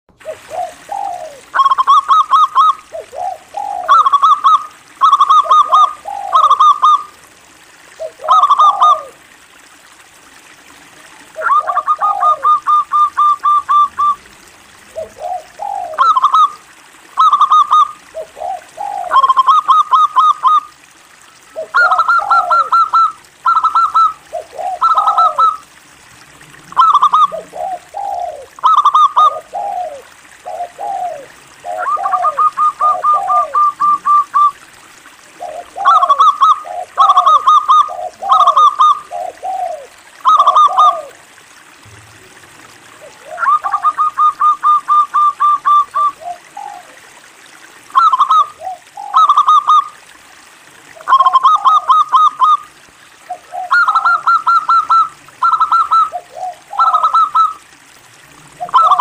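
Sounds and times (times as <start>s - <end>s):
dove cooing: 0.1s - 7.2s, 8.0s - 9.3s, 11.2s - 20.8s, 21.4s - 25.7s, 26.7s - 34.6s, 35.2s - 41.3s, 42.9s - 47.1s, 47.9s - 50.0s, 50.9s - 52.6s, 53.2s - 57.9s, 58.5s - 59.0s.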